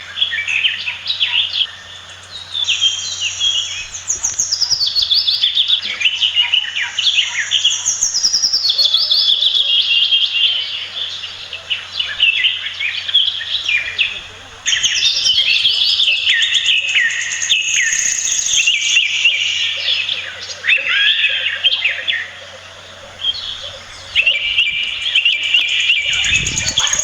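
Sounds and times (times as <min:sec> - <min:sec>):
birds chirping rapidly: 0:00.0 - 0:27.0.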